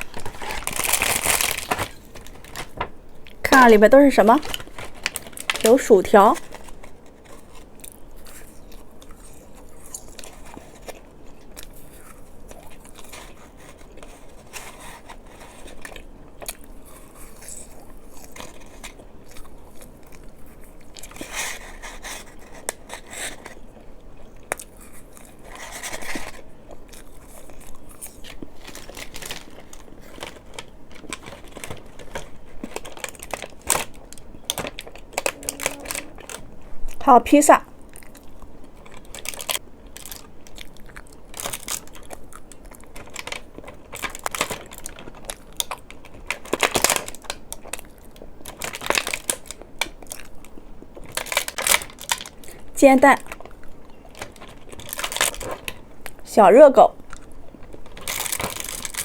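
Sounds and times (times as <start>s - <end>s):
candy crunching and chewing: 0.0s - 37.0s, 37.7s - 56.3s, 56.9s - 59.0s.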